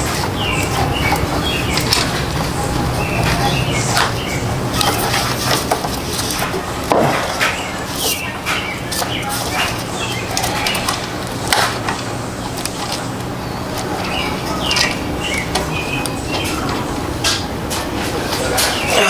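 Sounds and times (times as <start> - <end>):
birds calling: 0.0 - 19.0
steady low hum: 0.0 - 19.0.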